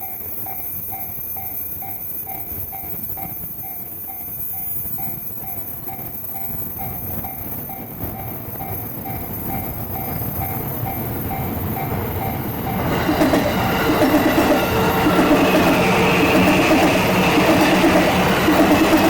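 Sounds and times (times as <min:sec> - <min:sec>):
level-crossing warning bell: 0:00.0 - 0:19.0
train rumbling: 0:00.0 - 0:19.0
train wheel and rail noise: 0:00.0 - 0:19.0.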